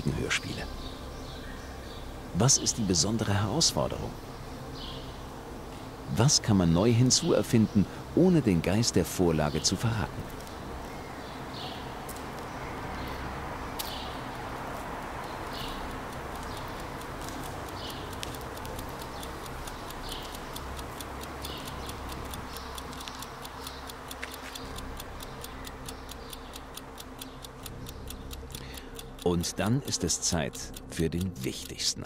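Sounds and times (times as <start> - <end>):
regular ticking: 0.0 - 32.0
steady hum and hiss: 0.0 - 32.0.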